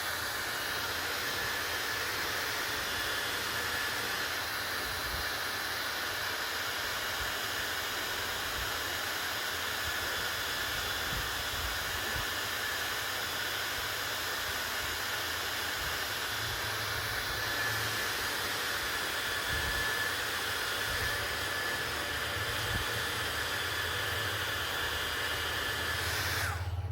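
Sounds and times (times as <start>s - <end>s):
hair dryer running: 0.0s - 26.9s.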